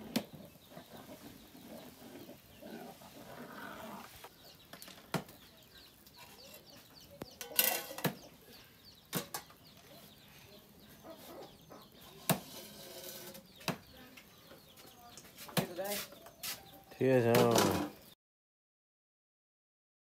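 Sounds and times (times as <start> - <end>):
chickens clucking: 0.0 - 18.1.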